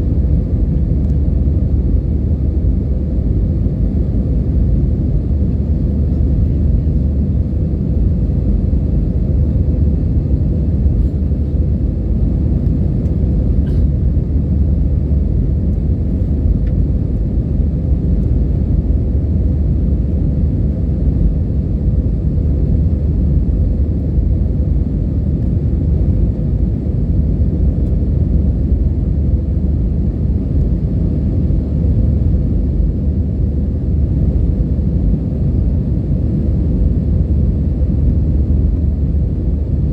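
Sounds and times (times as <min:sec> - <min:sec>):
airliner engines and airflow rumble: 0:00.0 - 0:39.9.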